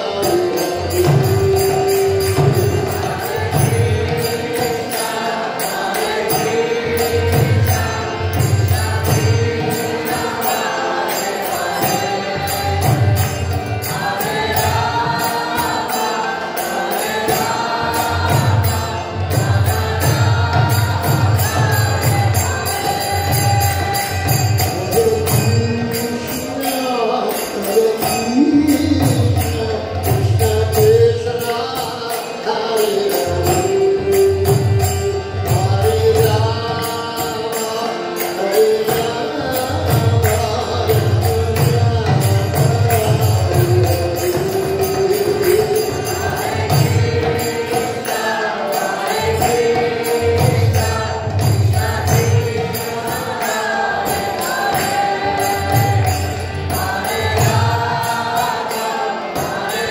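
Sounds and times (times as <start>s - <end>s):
devotional chanting: 0.0s - 59.9s
jingling percussion: 0.0s - 59.9s.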